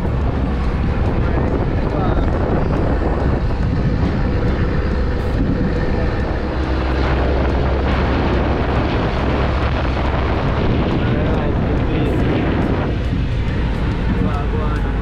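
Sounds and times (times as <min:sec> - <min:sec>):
vehicle engine rumble: 0:00.0 - 0:15.0
wind on microphone: 0:00.0 - 0:15.0.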